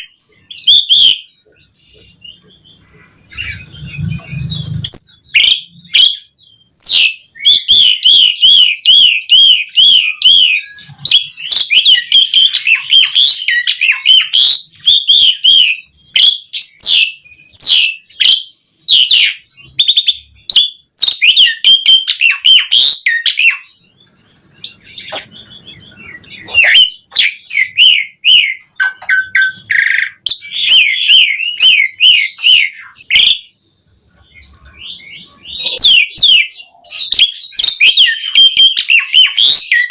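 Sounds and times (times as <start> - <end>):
starling singing whistled trills: 0.0 - 39.9.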